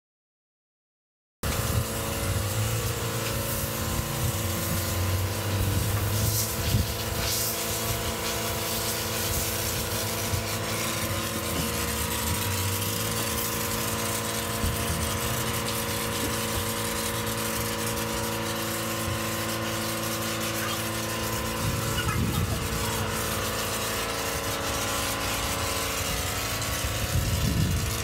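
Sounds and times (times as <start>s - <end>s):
pump machinery humming: 1.4s - 28.0s
foam lance hissing: 1.8s - 27.2s.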